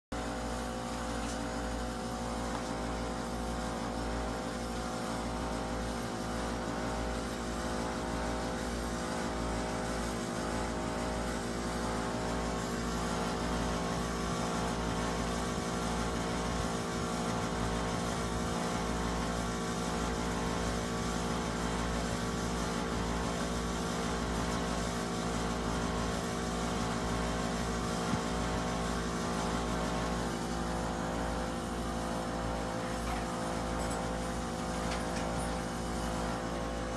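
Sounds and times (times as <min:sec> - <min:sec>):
air conditioner running: 0:00.1 - 0:36.9.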